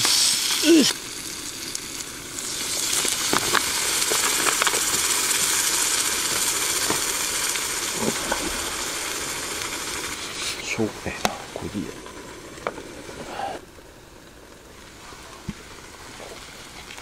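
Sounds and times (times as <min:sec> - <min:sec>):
bacon and eggs sizzling in a pan: 0:00.0 - 0:17.0
fat crackling and popping: 0:00.0 - 0:17.0.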